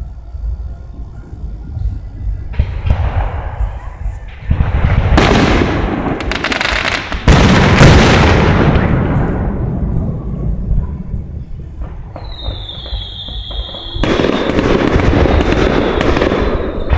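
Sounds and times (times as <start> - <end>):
firework crackling: 0.0 - 16.9
firework booms: 0.3 - 16.9.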